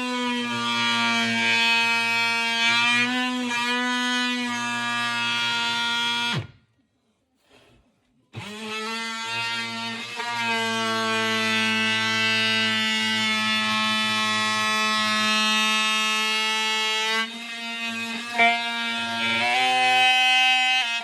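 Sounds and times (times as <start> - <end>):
oscillating multi-tool cutting wood: 0.0 - 6.6, 8.4 - 21.0.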